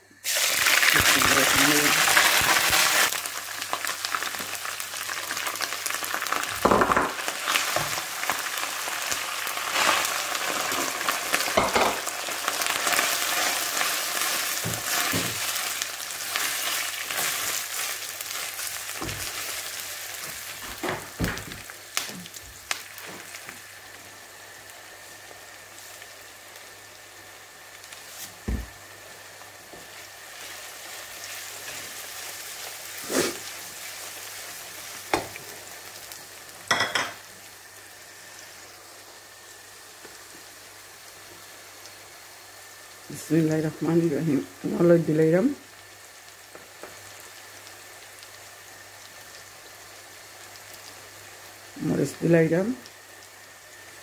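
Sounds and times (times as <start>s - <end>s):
onion and garlic sizzling in oil: 0.0s - 54.0s.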